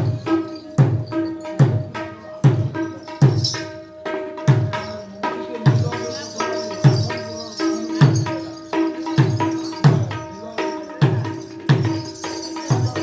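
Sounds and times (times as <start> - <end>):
mridanga sharp ringing strokes: 0.0 - 13.0.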